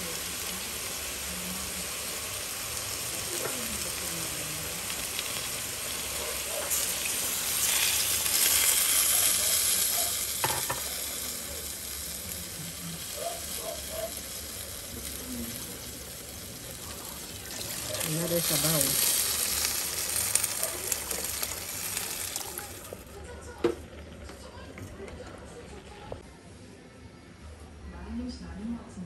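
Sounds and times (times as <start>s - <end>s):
chicken sizzling in a pot: 0.0s - 24.6s.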